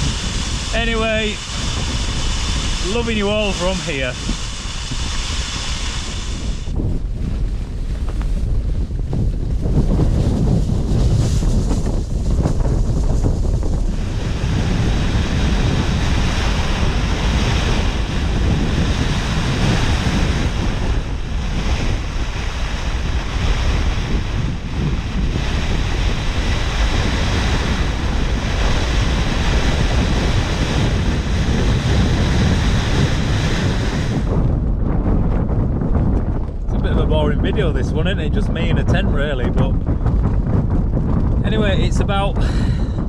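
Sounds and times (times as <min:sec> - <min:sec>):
storm wind buffeting tent: 0:00.0 - 0:43.0
wind rumble on microphone: 0:00.0 - 0:43.0.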